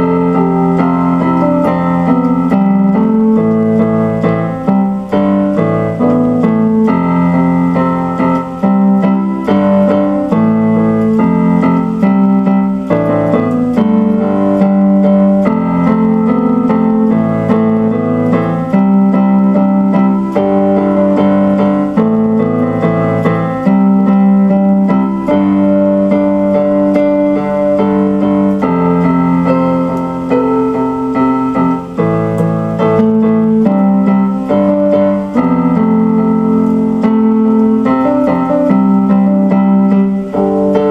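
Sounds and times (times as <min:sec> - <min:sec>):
piano music on electronic keyboard: 0:00.0 - 0:40.9.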